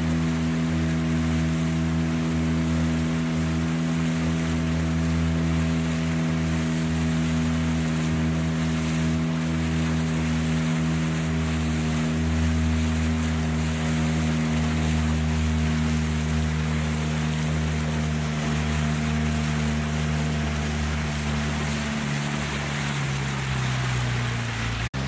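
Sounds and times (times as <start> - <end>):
boat motor droning: 0.0 - 25.0
water and wind rushing: 0.0 - 25.0.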